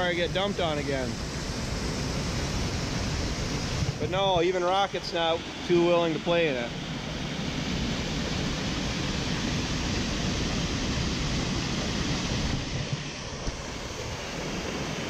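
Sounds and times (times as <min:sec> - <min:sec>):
water rushing through spillway: 0:00.0 - 0:15.0.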